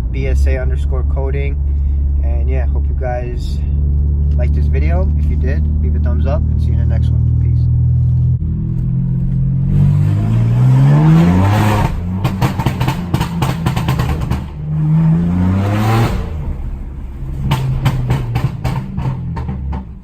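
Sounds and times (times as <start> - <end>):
exhaust pops and crackles: 0.0 - 10.1, 11.4 - 15.1, 15.8 - 20.0
car engine revving: 0.0 - 20.0.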